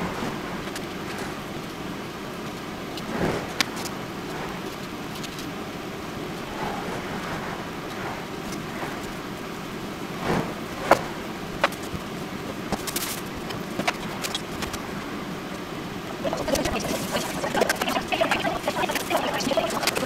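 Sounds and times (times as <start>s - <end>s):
steady background rumble: 0.0s - 20.0s.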